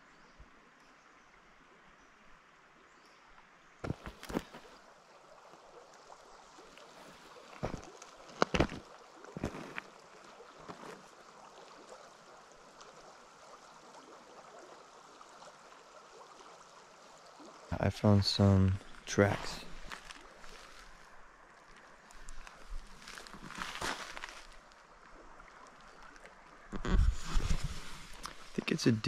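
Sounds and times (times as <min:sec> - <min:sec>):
creek running: 0:00.0 - 0:29.0.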